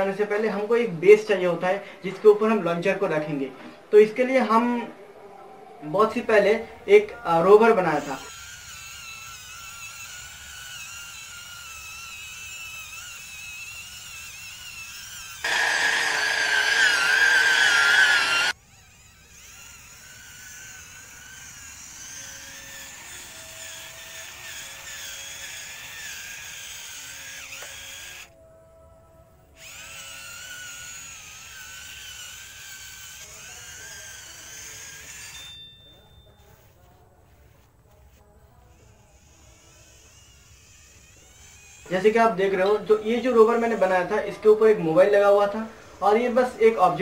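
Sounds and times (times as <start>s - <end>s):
electric gear motors whining: 8.0s - 28.4s, 29.6s - 46.9s.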